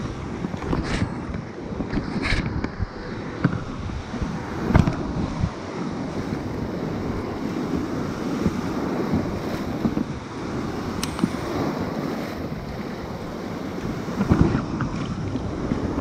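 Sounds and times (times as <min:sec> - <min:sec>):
ocean surf washing: 0:00.0 - 0:16.0
wind buffeting microphone: 0:00.0 - 0:16.0.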